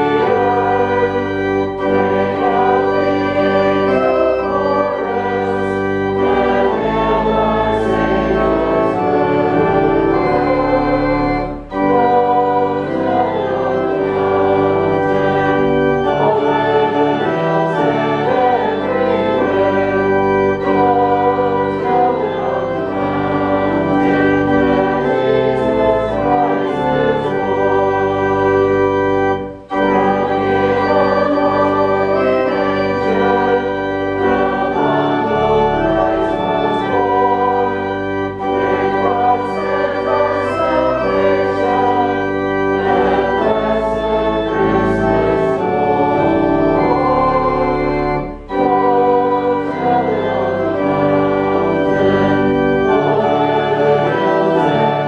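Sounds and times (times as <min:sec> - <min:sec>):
church organ playing a hymn: 0:00.0 - 0:55.0
congregation singing: 0:00.0 - 0:55.0.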